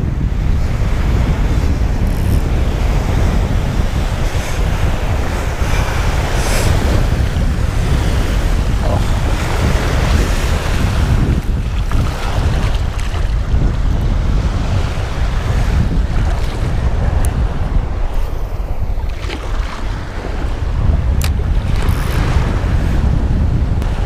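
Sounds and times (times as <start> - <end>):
surf waves breaking on sand: 0.0 - 24.0
wind buffeting microphone: 0.0 - 24.0.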